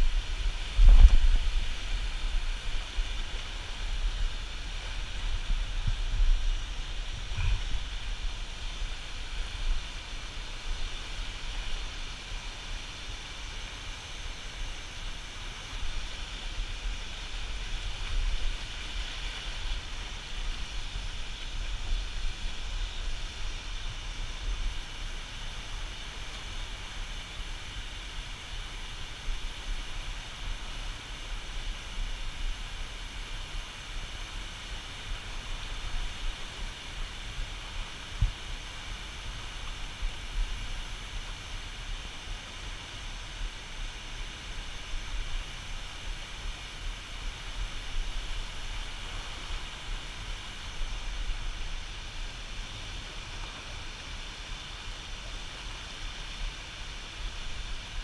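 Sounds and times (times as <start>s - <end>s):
water rushing through dam: 0.0s - 58.0s.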